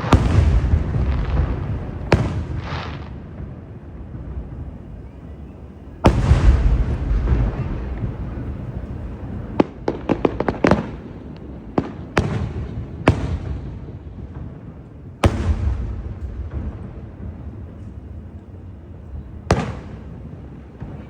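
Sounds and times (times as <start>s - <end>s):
fireworks crackling pops: 0.0s - 21.0s
fireworks rumbling: 0.0s - 21.0s
fireworks sharp bangs: 0.0s - 21.0s.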